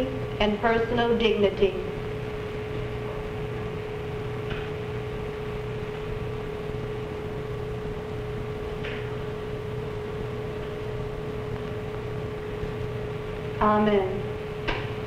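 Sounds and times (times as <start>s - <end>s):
steady hum with hiss: 0.0s - 15.0s.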